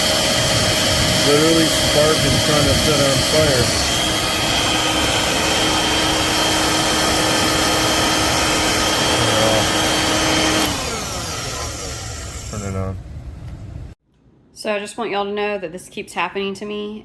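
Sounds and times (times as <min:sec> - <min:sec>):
vacuum cleaner motor whine: 0:00.0 - 0:13.9.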